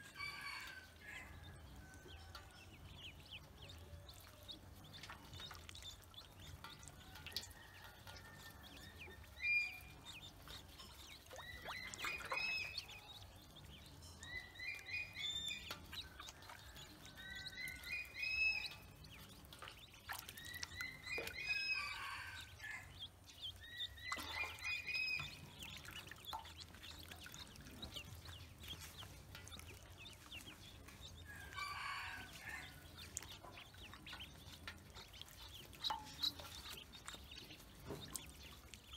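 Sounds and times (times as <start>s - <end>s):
faint water splashes: 1.7s - 38.9s
ducklings peeping: 2.0s - 38.9s.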